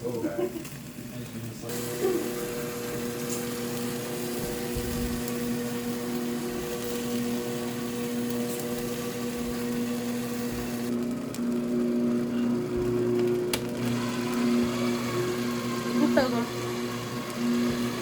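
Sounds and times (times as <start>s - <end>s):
cooker motor humming: 0.0s - 18.0s.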